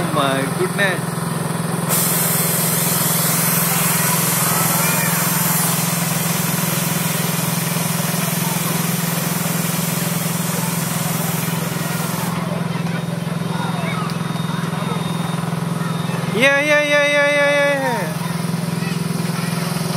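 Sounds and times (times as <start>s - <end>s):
carousel ride machine hum: 0.0s - 19.9s.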